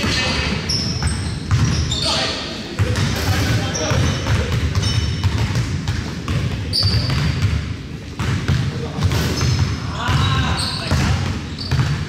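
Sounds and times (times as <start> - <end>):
basketball bouncing on court: 0.0 - 2.0, 2.8 - 12.0
players' voices: 0.0 - 5.0, 6.0 - 11.6
sneaker squeaks: 0.0 - 5.6, 6.3 - 8.3, 8.9 - 12.0.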